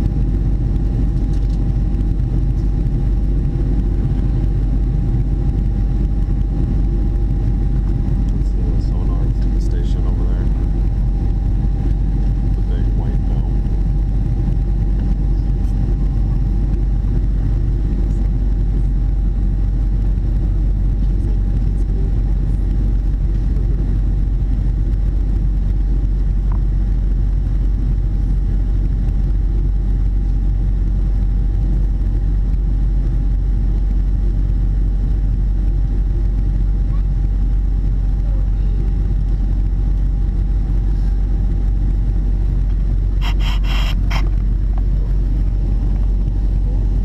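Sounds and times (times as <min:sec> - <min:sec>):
jet engines and rushing air: 0:00.0 - 0:38.2, 0:38.8 - 0:47.0
faint steady hum: 0:00.0 - 0:47.0.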